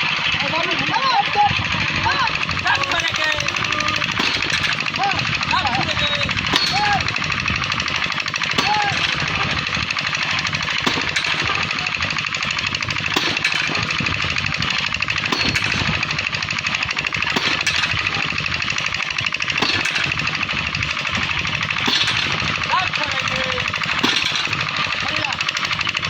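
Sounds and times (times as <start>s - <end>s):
power tool hammering: 0.0s - 26.0s
sharp knocks: 2.2s - 26.0s.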